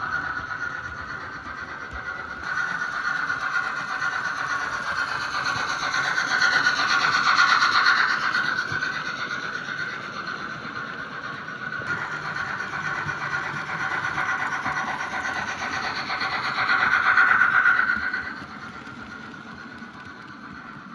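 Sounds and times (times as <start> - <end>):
model train whirring on track: 0.0 - 20.9.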